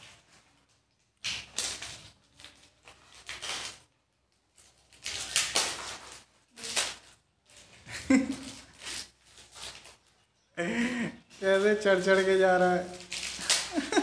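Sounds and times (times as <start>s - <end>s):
plastic wrappers crinkling: 0.0s - 14.0s.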